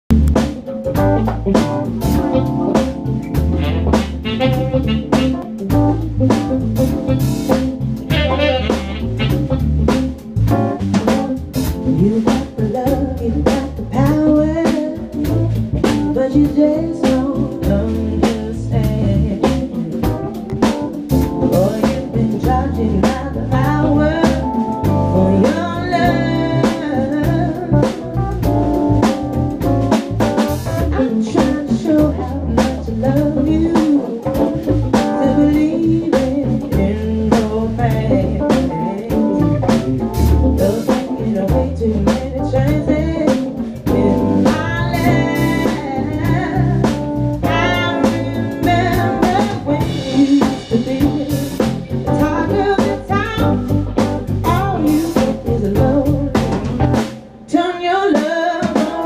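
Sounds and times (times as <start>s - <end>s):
electric bass: 0.0s - 57.6s
live band playing rhythm and blues: 0.1s - 59.0s.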